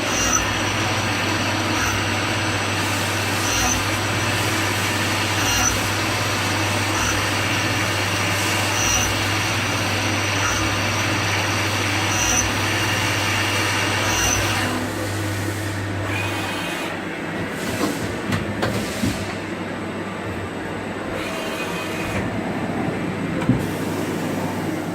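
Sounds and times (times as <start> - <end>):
lathe machine running: 0.0 - 17.8, 19.4 - 24.9.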